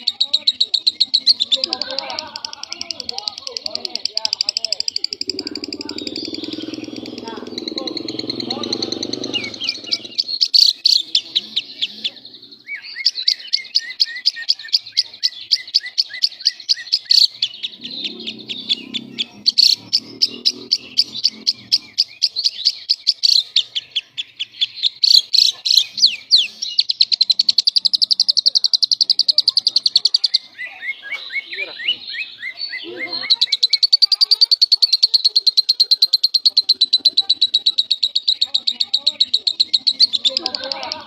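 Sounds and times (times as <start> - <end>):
lovebird chirping: 0.0 - 41.0.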